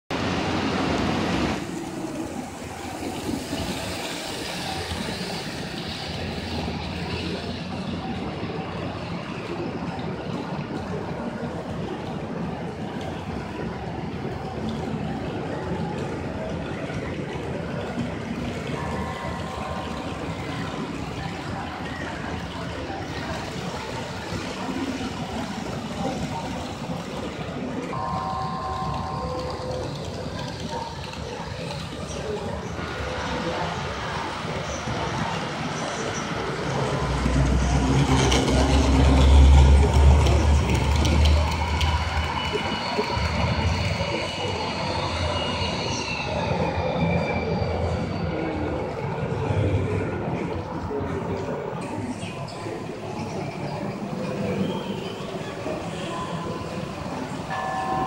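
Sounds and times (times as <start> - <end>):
exhibition hall background noise: 0.1 - 58.0
model trains rolling: 0.2 - 58.0.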